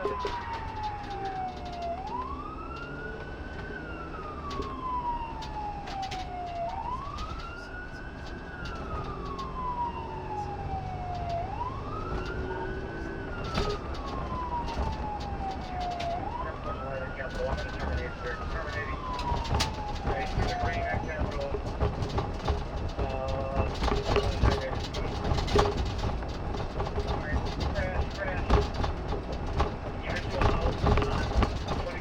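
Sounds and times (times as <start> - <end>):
police siren wailing: 0.0 - 32.0.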